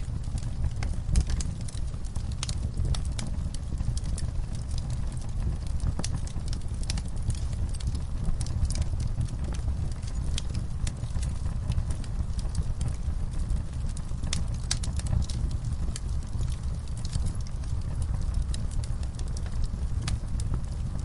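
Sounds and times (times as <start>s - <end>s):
burning logs crackling and popping: 0.0s - 21.0s
low rumble of flames: 0.0s - 21.0s.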